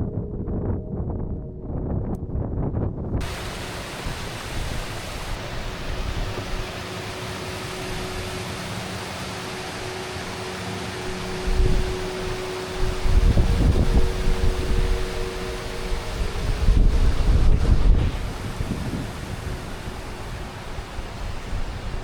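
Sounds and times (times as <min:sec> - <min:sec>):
steady rushing hiss: 0:03.2 - 0:22.0.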